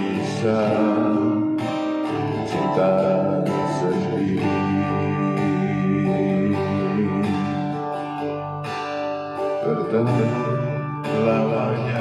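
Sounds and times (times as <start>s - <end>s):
man singing pop ballad: 0.0s - 7.9s, 9.4s - 12.0s
guitar backing track: 0.0s - 12.0s.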